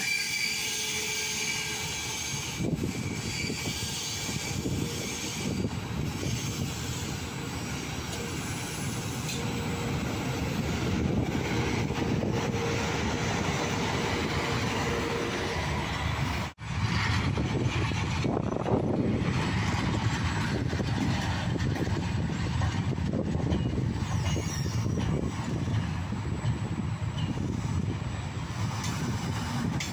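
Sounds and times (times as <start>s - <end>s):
freight train wheels rumbling: 0.0s - 29.9s
train wagons hissing and rattling: 0.0s - 29.9s.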